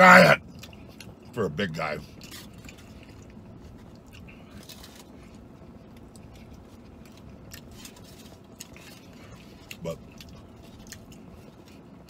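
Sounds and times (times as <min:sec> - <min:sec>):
low background hum: 0:00.0 - 0:12.0
man chewing food: 0:00.1 - 0:01.4, 0:02.0 - 0:12.0.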